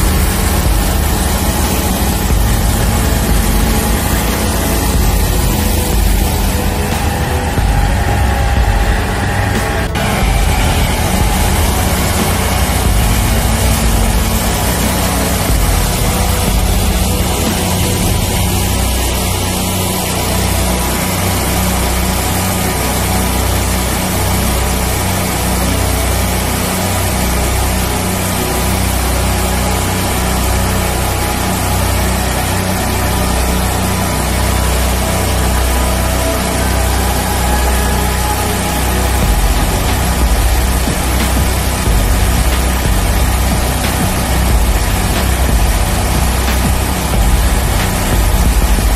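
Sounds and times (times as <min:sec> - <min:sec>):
engines running steadily: 0:00.0 - 0:48.9
water jet hissing on asphalt: 0:00.0 - 0:48.9.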